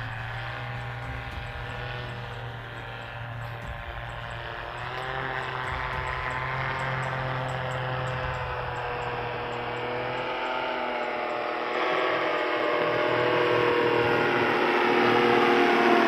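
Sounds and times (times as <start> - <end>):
wavering multi-pitch drone: 0.0 - 16.0.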